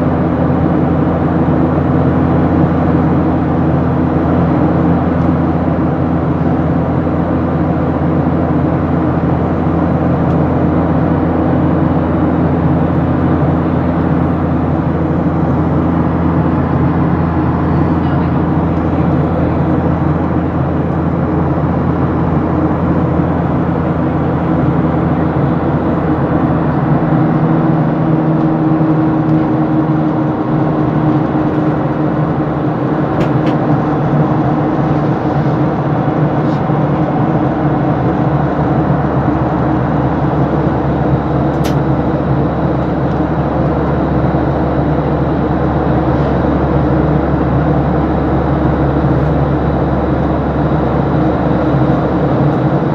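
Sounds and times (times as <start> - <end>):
jet engines droning: 0.0 - 52.9
low cabin hum: 0.0 - 52.9.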